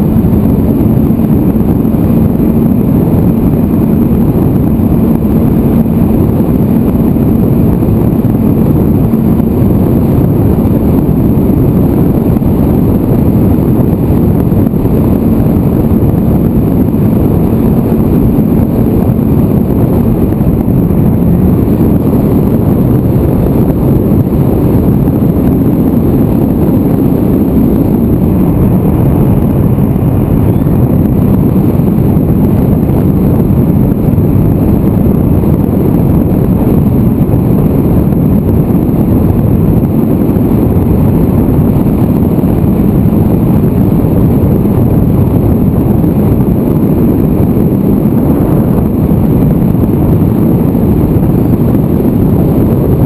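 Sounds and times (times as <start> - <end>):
faint high whine: 0.0 - 53.0
wind noise on microphone: 0.0 - 53.0.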